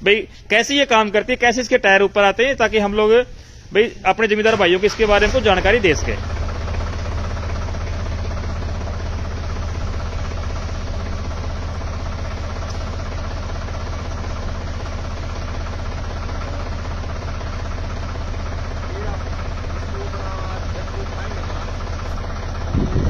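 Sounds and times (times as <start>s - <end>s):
tractor diesel engine idling: 0.0s - 23.0s.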